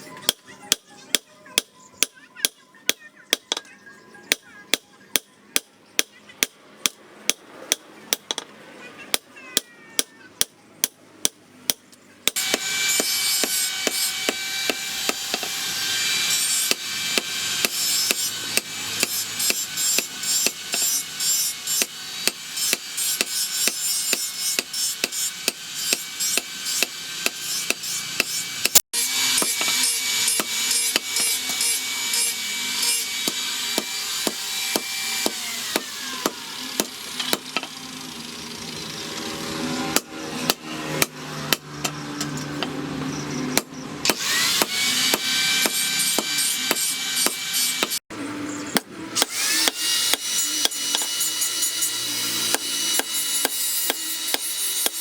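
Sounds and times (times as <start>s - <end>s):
hammer striking steel: 4.3s - 8.5s, 9.1s - 37.8s, 39.9s - 42.7s, 43.5s - 48.0s, 48.7s - 55.0s.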